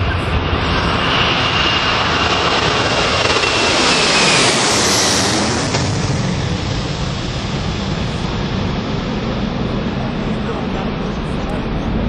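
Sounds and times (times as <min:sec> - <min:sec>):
airplane engines at takeoff: 0:00.0 - 0:12.0.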